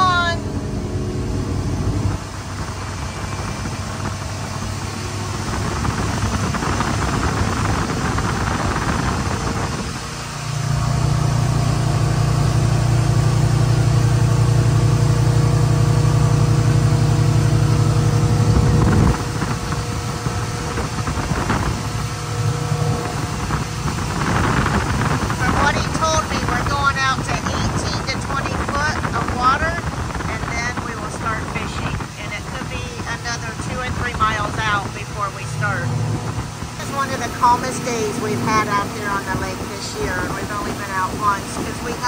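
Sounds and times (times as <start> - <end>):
motorboat engine running: 0.0 - 42.0
water rushing: 0.0 - 42.0
wind: 0.0 - 42.0.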